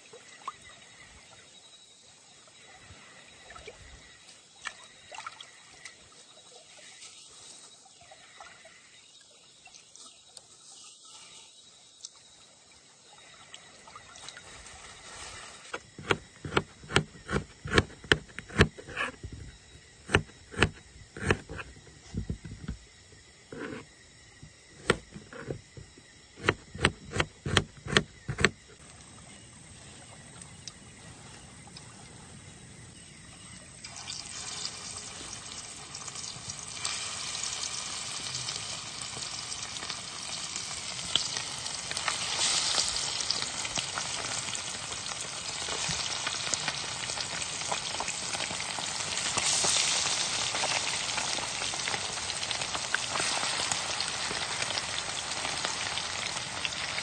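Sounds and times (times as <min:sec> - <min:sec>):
crackling hiss: 0:05.6 - 0:57.0.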